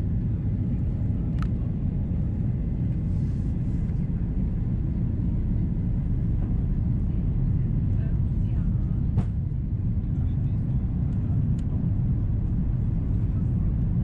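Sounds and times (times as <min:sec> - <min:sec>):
low aircraft cabin rumble: 0:00.0 - 0:14.0.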